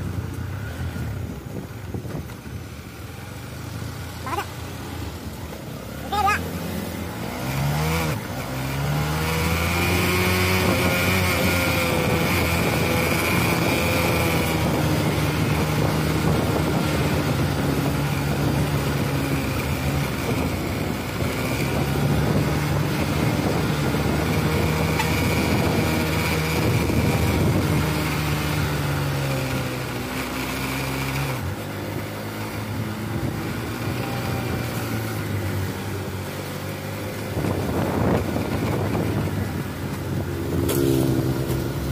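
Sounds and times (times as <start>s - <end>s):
truck diesel engine labouring uphill: 0.0s - 41.9s.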